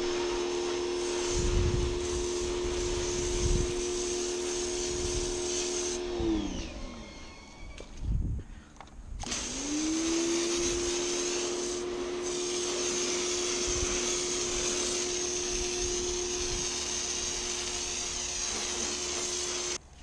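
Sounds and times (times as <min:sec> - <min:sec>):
water spraying hiss: 0:00.0 - 0:06.0, 0:09.2 - 0:19.8
pressure washer motor whine: 0:00.0 - 0:08.1, 0:09.2 - 0:19.8.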